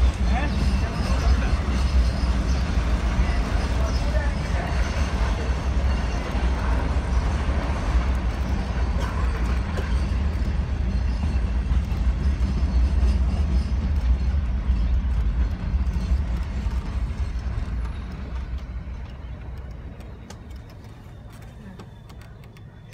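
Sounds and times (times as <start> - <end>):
train rumbling and rattling: 0.0 - 22.9.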